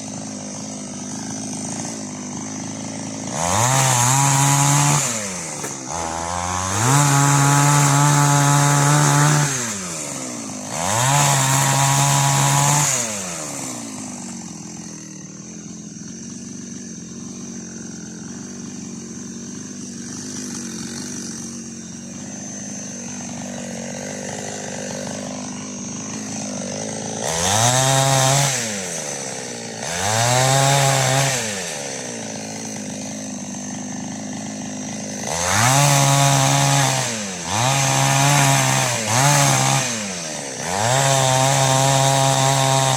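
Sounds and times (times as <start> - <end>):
chainsaw revving and idling: 0.0 - 42.9.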